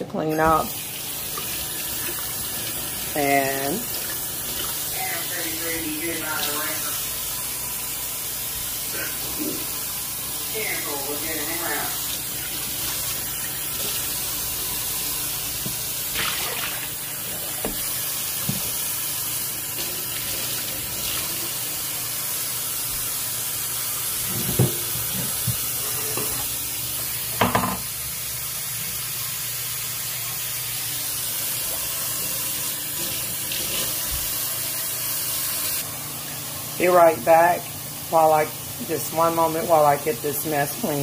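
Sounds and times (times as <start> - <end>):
water running into a steel sink: 0.2 - 41.0.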